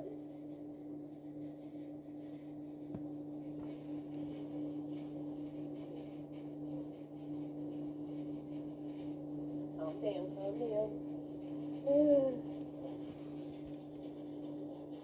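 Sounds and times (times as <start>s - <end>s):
electrical hum: 0.0s - 15.0s
faint room noise: 0.0s - 15.0s.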